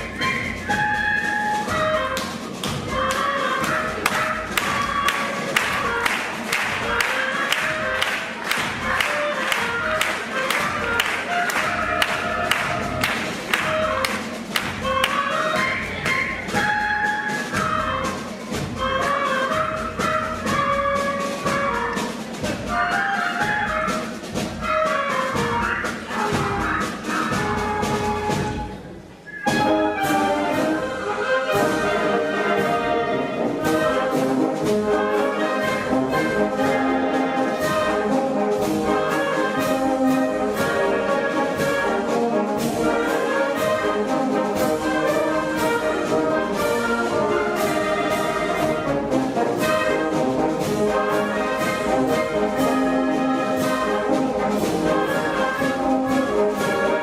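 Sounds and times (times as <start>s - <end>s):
brass-led orchestral music: 0.0s - 57.0s.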